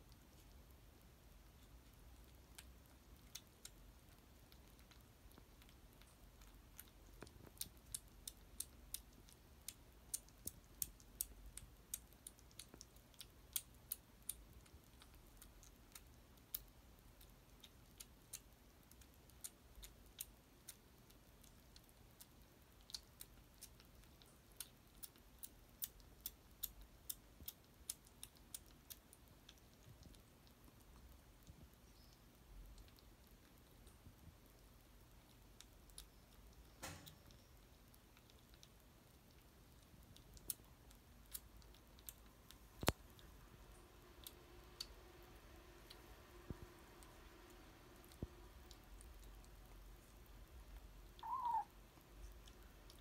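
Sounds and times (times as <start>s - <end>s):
kitten crunching dry food: 0.0s - 53.0s.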